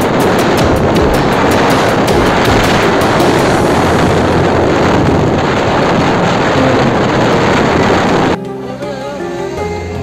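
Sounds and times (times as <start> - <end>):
wind buffeting microphone: 0.0 - 8.4
vehicle road noise: 0.0 - 9.6.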